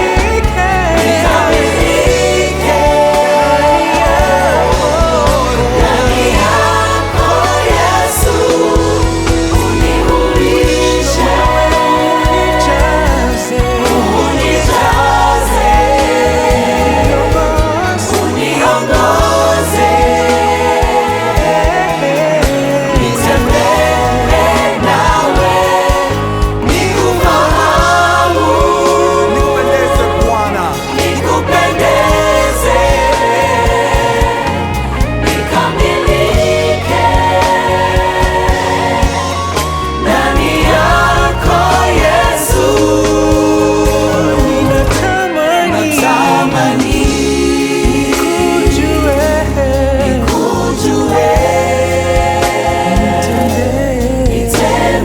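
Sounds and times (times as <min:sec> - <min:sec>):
band playing: 0:00.0 - 0:55.0
bass notes: 0:00.0 - 0:55.0
choir singing: 0:00.0 - 0:55.0.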